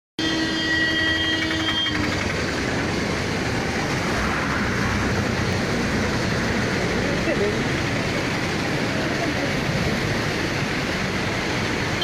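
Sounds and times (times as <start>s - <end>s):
heavy rain: 1.0s - 12.0s.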